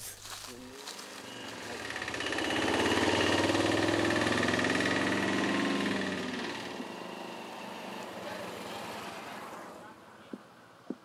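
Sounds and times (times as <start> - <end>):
motorcycle passing by: 0.6 - 10.9.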